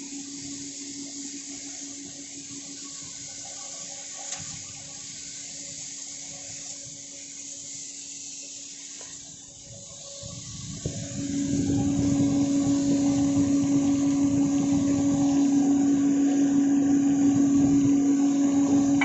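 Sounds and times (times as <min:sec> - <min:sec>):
coffee roasting machine running: 0:00.0 - 0:19.0.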